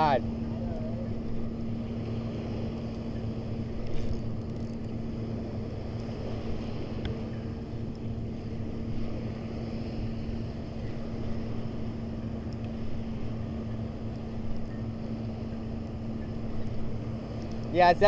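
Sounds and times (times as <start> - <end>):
motorboat engine droning: 0.0 - 18.0
surf: 0.0 - 18.0
wind: 0.0 - 18.0.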